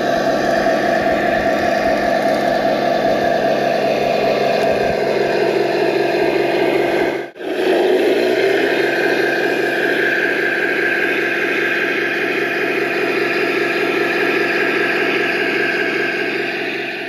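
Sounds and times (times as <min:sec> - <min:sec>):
model tank mechanical drone and whine: 0:00.0 - 0:17.0.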